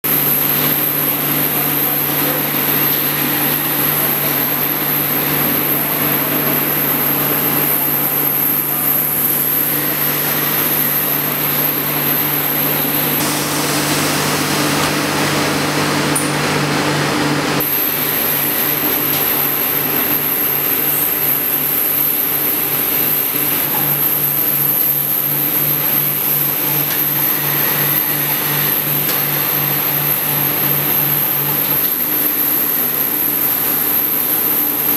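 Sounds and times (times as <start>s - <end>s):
high mechanical whine: 0.0s - 34.9s
industrial machinery humming: 0.0s - 34.9s.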